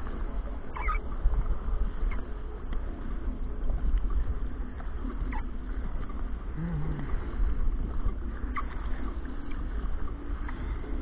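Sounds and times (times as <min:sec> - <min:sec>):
water sloshing around a kayak: 0:00.0 - 0:11.0
wind rumbling on microphone: 0:00.0 - 0:11.0.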